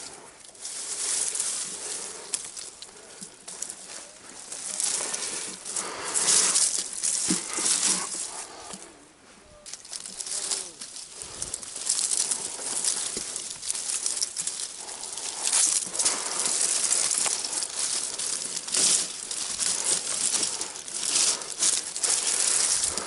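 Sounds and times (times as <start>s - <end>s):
bush branches rustling: 0.0s - 23.0s.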